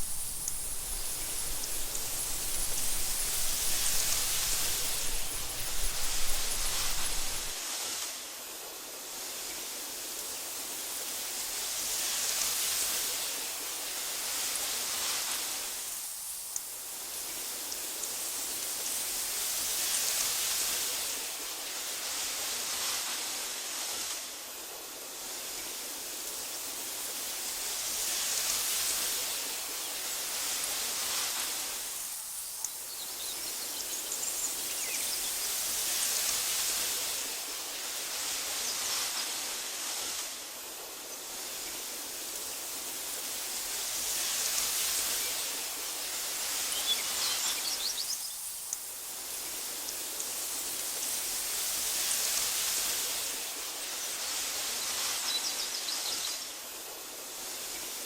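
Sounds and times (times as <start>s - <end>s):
wind blowing through grass: 0.0s - 58.0s.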